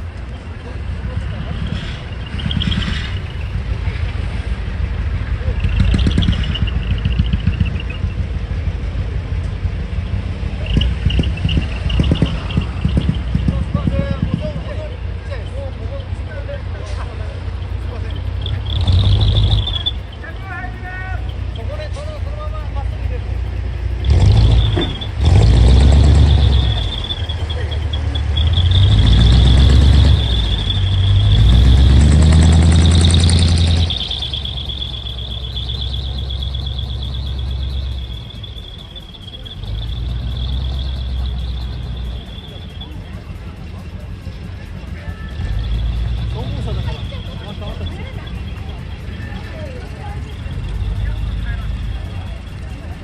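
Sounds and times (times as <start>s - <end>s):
truck diesel engine rumbling: 0.0s - 53.0s
high-pitched squeal: 10.0s - 53.0s.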